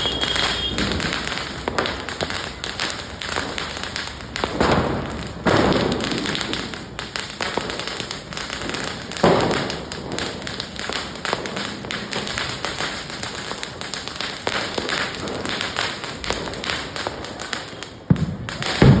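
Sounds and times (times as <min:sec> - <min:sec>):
firecrackers popping and crackling: 0:00.0 - 0:19.0
loud firecracker bangs: 0:00.0 - 0:19.0.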